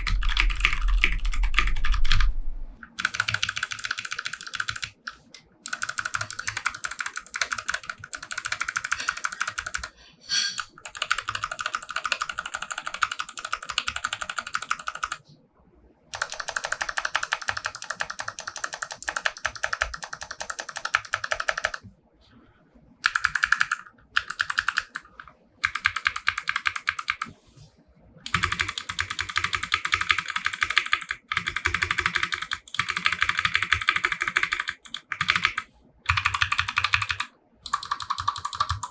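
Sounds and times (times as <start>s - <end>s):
fast typing on mechanical keyboard: 0.0s - 2.3s, 2.9s - 9.9s, 10.6s - 15.2s, 16.1s - 21.8s, 23.0s - 27.3s, 28.3s - 38.9s.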